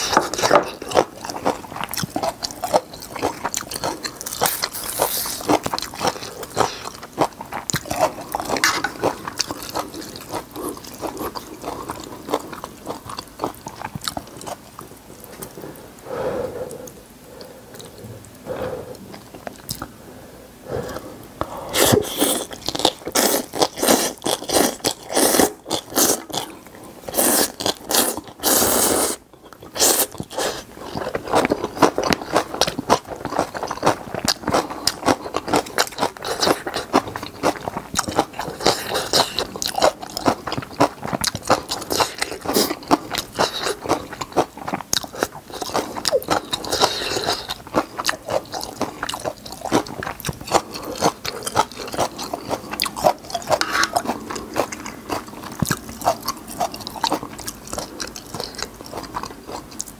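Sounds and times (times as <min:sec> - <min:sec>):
wet chewing and crunching: 0:00.0 - 0:15.6, 0:21.8 - 0:59.9.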